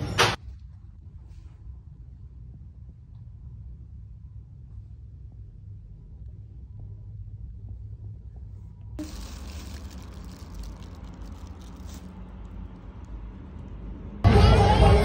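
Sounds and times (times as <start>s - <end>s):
low rumble: 0.4s - 15.0s.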